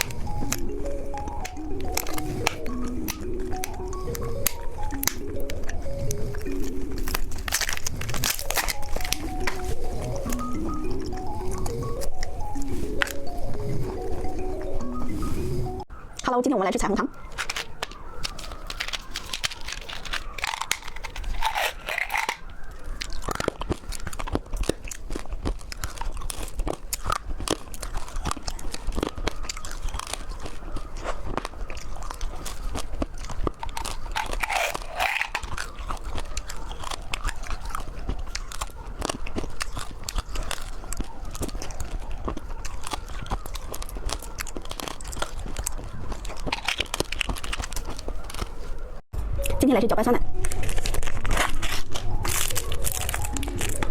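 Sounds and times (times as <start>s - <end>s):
candy crunching: 0.0s - 16.2s, 16.8s - 53.9s
mouth clicks: 0.0s - 16.3s, 17.0s - 49.6s, 50.3s - 53.9s.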